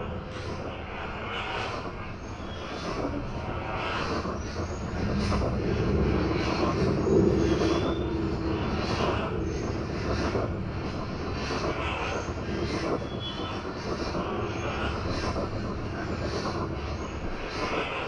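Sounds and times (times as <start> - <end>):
low mechanical rumble and drone: 0.0 - 18.0
steady low hum: 0.0 - 18.0
rhythmic hiss: 1.6 - 18.0.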